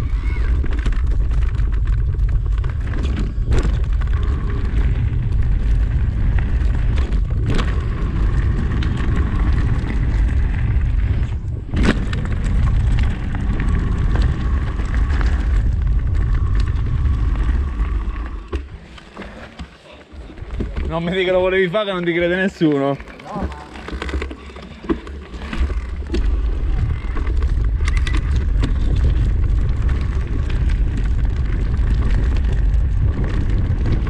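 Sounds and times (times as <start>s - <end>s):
wind buffeting microphone: 0.0s - 18.8s, 25.4s - 34.0s.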